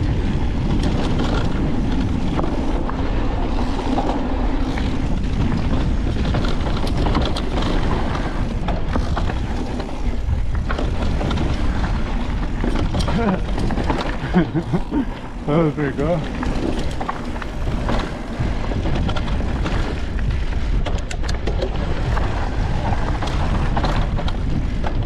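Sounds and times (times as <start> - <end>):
bike clicks and rattles: 0.0 - 25.0
tyres rolling over dirt and rocks: 0.0 - 25.0
wind rumble on microphone: 0.0 - 25.0.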